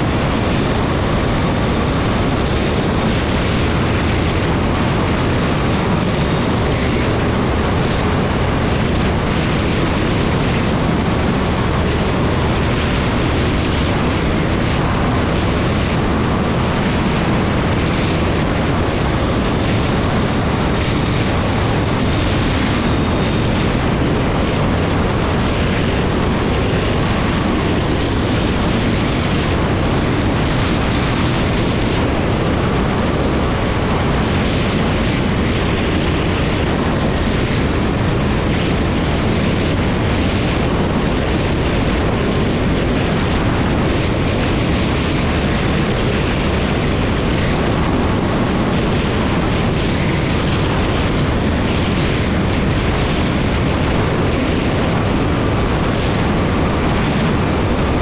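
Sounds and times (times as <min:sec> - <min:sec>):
engine and propeller droning: 0:00.0 - 0:58.0
wind rush on microphone: 0:00.0 - 0:58.0.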